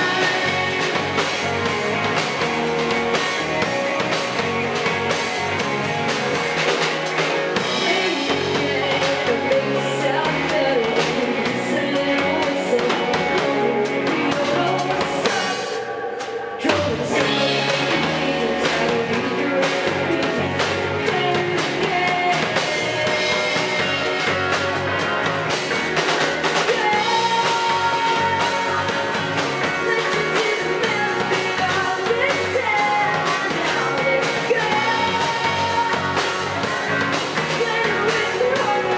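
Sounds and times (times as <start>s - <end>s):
female lead vocals: 0.0s - 5.7s, 7.5s - 24.9s, 26.6s - 38.9s
bass guitar: 0.0s - 38.9s
drum kit: 0.0s - 38.9s
electric guitars: 0.0s - 38.9s.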